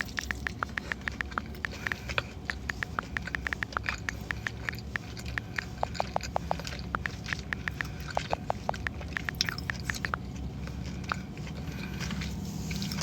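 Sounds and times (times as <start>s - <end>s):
open-mouthed chewing: 0.0s - 13.0s.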